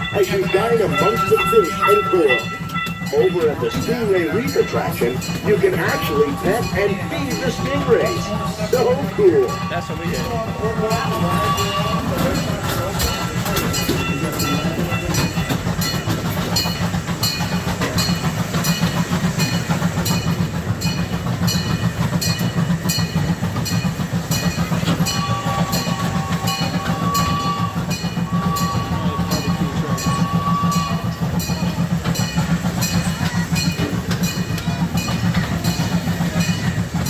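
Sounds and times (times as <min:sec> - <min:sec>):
ride train rumbling: 0:00.0 - 0:37.0
wheels clicking over rail joints: 0:00.0 - 0:37.0.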